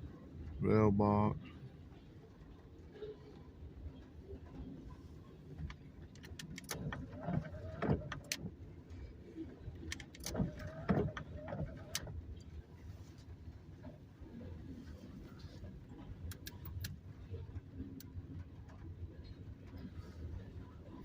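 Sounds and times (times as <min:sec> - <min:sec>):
low rumble of freight cars: 0:00.0 - 0:21.0.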